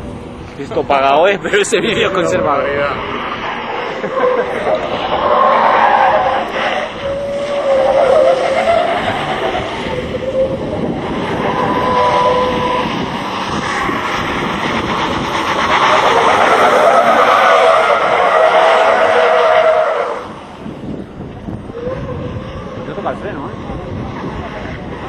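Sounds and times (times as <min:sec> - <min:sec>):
diesel engine running hard: 0:00.0 - 0:25.0
tyres squealing on tarmac: 0:01.8 - 0:20.5, 0:21.5 - 0:25.0.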